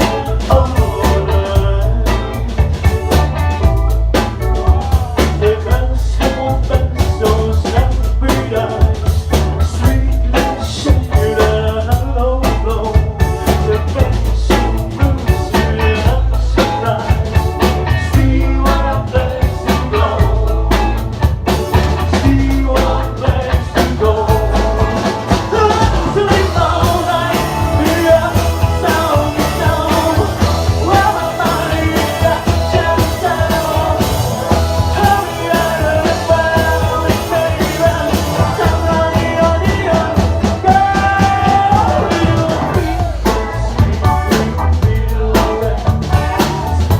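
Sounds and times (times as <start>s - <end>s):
drum kit: 0.0s - 46.9s
live rock band playing: 0.0s - 46.9s.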